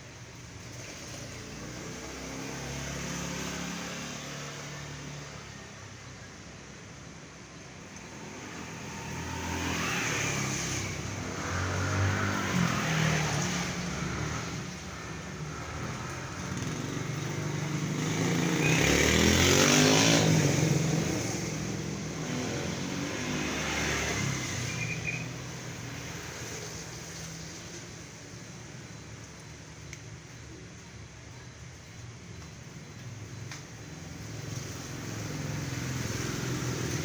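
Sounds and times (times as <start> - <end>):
low traffic rumble: 0.0 - 37.0
vehicles passing: 0.0 - 37.0.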